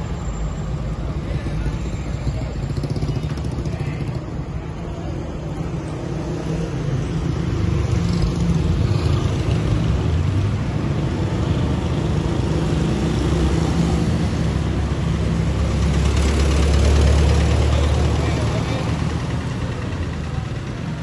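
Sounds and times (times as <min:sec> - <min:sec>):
heavy vehicle engine drone: 0:00.0 - 0:21.0
motorcycles and traffic: 0:00.0 - 0:21.0.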